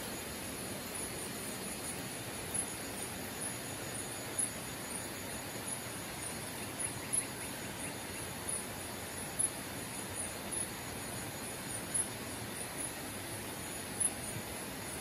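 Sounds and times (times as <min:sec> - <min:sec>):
insects chirping: 0:00.0 - 0:15.0
steady hiss: 0:00.0 - 0:15.0.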